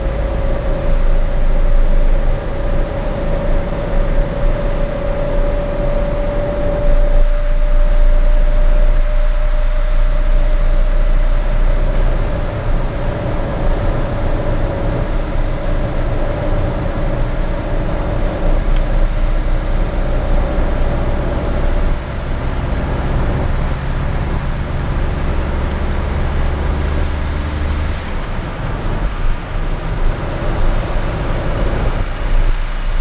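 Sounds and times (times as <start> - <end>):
diesel engine deep drone: 0.0 - 33.0.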